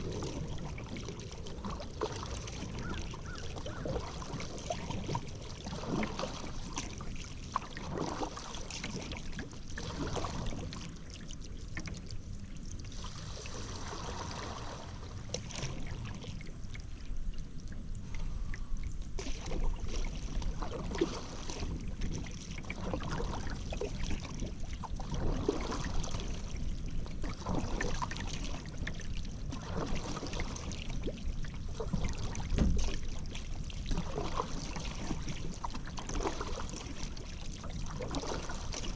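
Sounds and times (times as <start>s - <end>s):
paddle strokes in river water: 0.0s - 38.9s.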